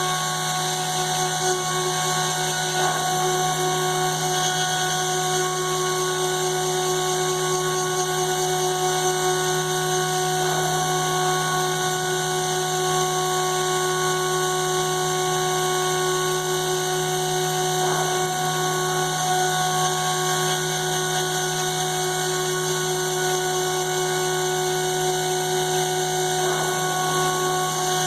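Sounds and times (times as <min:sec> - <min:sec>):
router spindle whine: 0:00.0 - 0:28.0.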